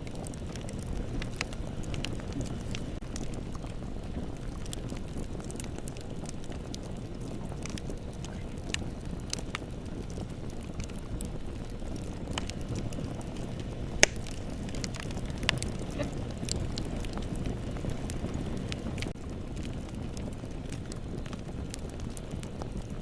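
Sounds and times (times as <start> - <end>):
bonfire rumbling: 0.0 - 23.0
burning wood crackling and popping: 0.0 - 23.0.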